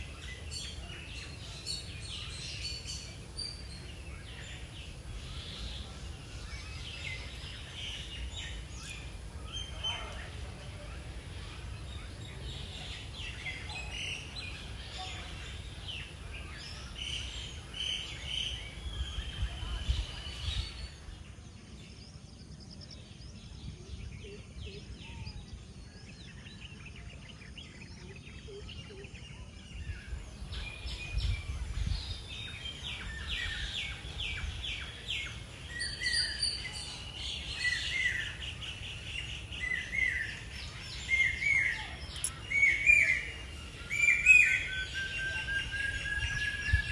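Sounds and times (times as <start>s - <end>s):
birds chirping and calling: 0.0s - 21.3s, 22.1s - 46.9s.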